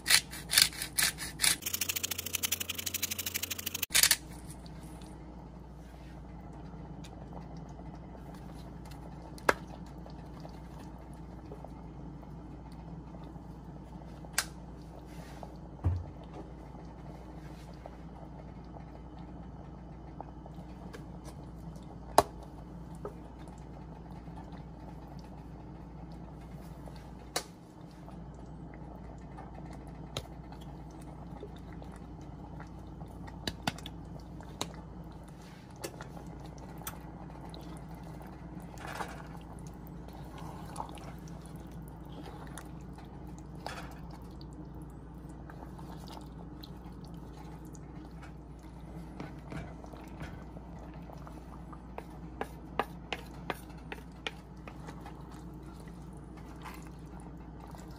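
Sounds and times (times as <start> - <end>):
stew bubbling in pot: 6.2 - 57.9.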